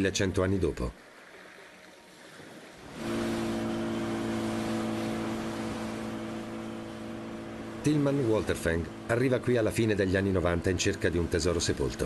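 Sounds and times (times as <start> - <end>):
water rushing and splashing: 0.0 - 12.0
outboard motor running: 2.1 - 12.0.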